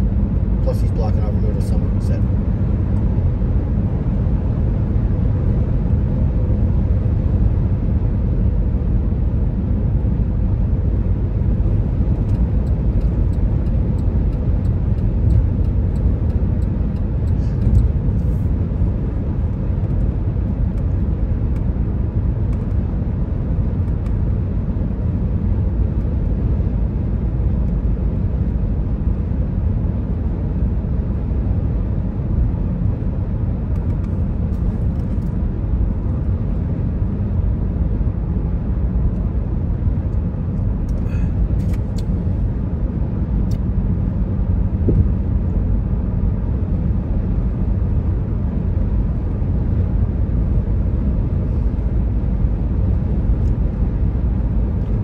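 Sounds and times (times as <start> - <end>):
car interior road rumble: 0.0 - 55.0.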